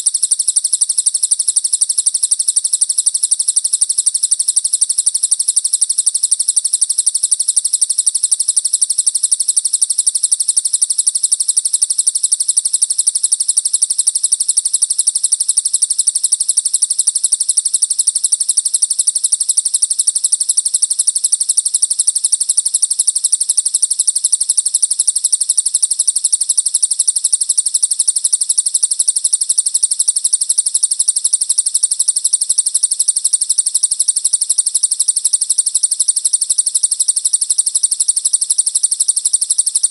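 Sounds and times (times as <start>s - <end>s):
songbird rapid trill: 1.5s - 39.9s.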